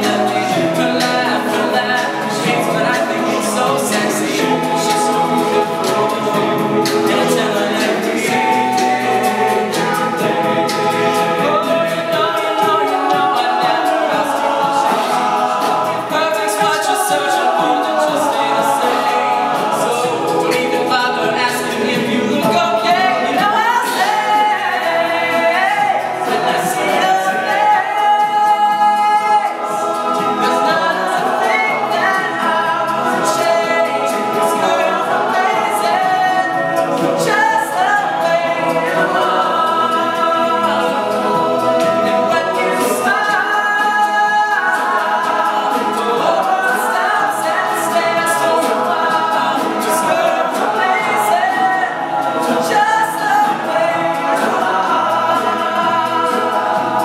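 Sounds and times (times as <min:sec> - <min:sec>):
men singing a cappella: 0:00.0 - 0:57.0.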